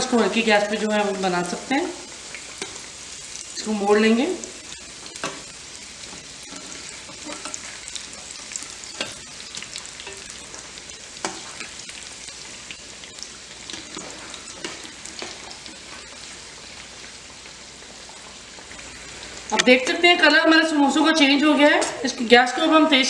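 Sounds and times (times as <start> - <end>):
food deep-frying in oil: 0.0 - 23.0.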